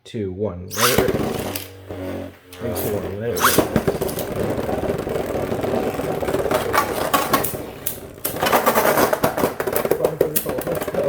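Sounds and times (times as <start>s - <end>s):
spinning tops whirring: 0.7s - 11.0s.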